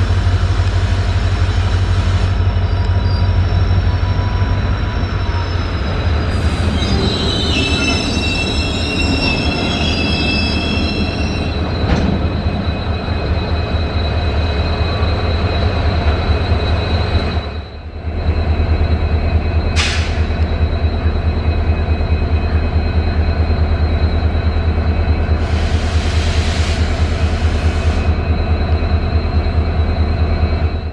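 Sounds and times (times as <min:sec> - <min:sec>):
train rumbling past: 0:00.0 - 0:30.9
train wheels squealing: 0:00.5 - 0:30.9.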